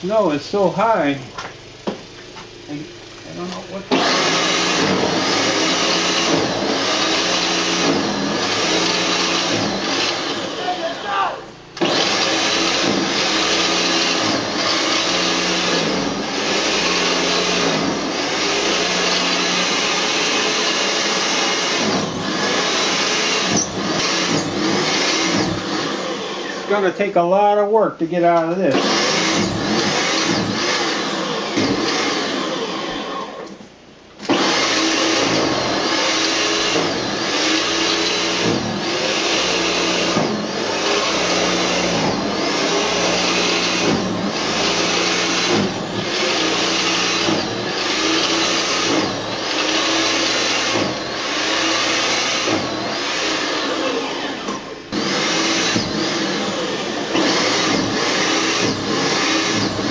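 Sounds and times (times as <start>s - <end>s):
snowblower engine running: 0.0s - 27.1s, 34.3s - 59.9s.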